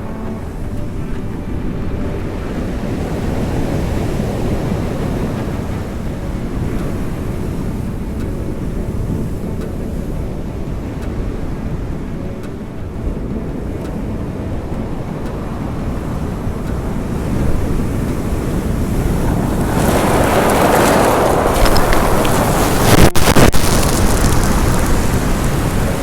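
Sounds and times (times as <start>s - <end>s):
surf rumbling against shore: 0.0s - 26.0s
wave breaking: 0.0s - 26.0s
wind buffeting microphone: 0.0s - 26.0s.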